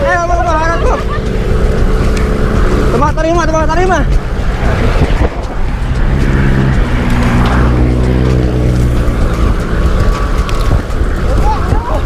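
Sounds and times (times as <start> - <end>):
motor vehicle engine drone: 0.0 - 12.0
wind rushing over microphone: 1.8 - 12.0.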